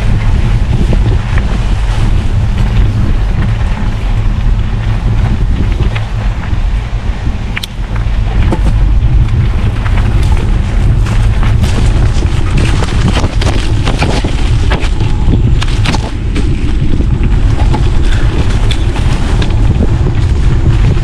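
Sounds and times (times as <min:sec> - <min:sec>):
bicycle clicks and rattles: 0:00.0 - 0:21.0
wind buffeting microphone: 0:00.0 - 0:21.0.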